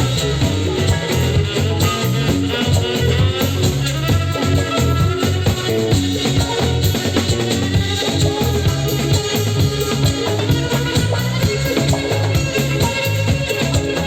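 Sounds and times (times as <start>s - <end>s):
bass guitar: 0.0s - 14.0s
drum kit: 0.0s - 14.0s
guitar lines: 0.0s - 14.0s.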